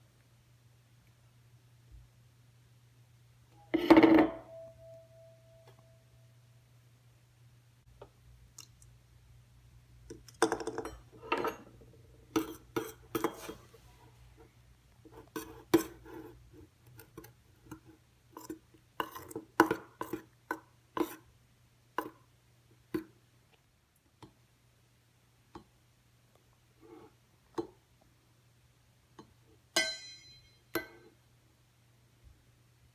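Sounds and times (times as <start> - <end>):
faint low hum: 0.0 - 32.9.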